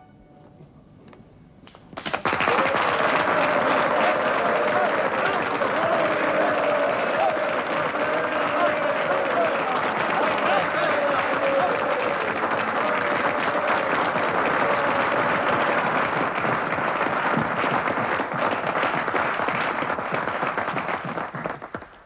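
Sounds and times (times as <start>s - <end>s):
crowd applauding: 1.7s - 22.0s.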